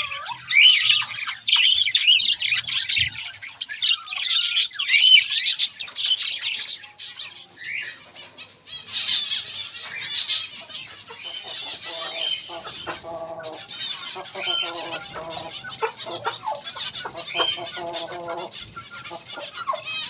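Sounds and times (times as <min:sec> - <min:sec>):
small birds chirping and squawking: 0:00.0 - 0:20.0.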